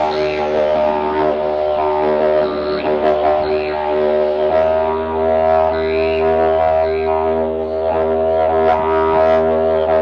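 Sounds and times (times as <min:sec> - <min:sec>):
didgeridoo drone: 0:00.0 - 0:10.0.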